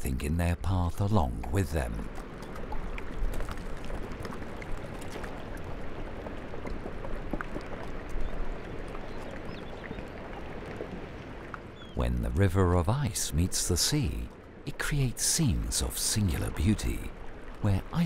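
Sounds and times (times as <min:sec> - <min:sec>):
water lapping and sloshing: 0:01.0 - 0:18.0.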